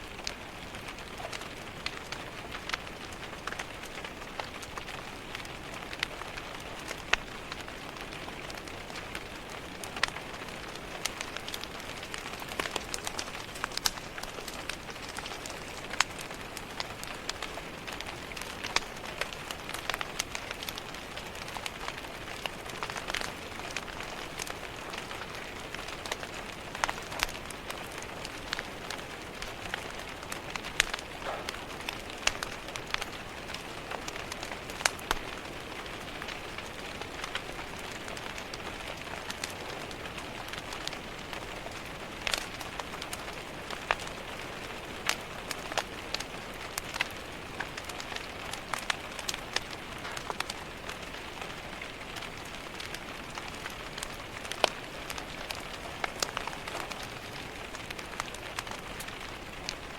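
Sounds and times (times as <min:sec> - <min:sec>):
wood fire crackling and popping: 0:00.0 - 0:59.9
rain hiss: 0:04.0 - 0:59.9.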